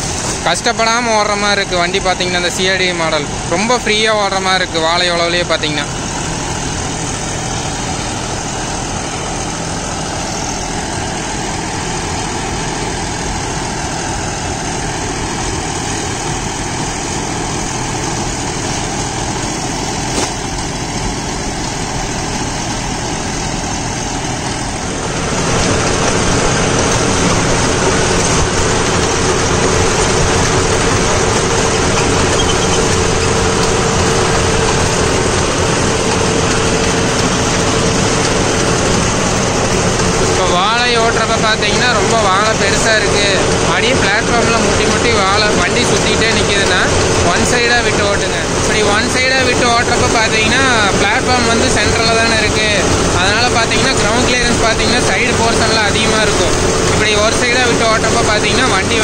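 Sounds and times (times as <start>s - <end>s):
steady hum: 0.0s - 59.0s
tractor engine running under load: 0.0s - 59.0s.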